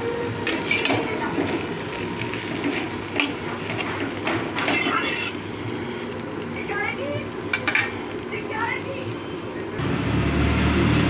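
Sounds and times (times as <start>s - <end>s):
noodles sizzling in a pan: 0.0s - 11.0s.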